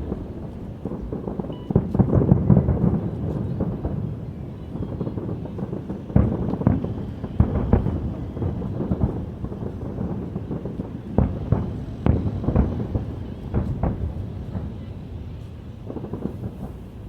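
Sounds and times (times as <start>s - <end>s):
fireworks bursting bangs: 0.0s - 17.0s.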